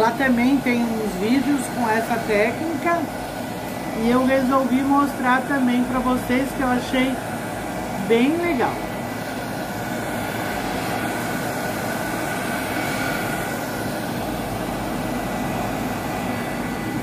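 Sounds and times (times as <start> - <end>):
heat gun blowing hot air: 0.0 - 17.0.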